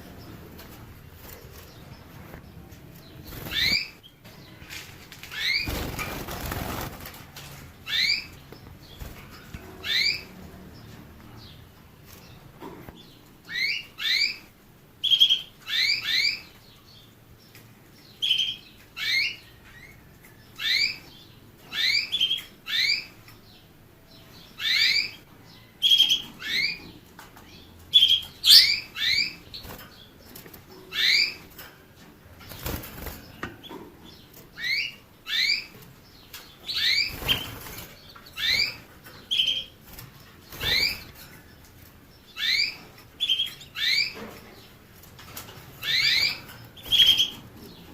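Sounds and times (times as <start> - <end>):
finch chirping: 0.0 - 4.7, 7.8 - 20.0, 20.6 - 47.9.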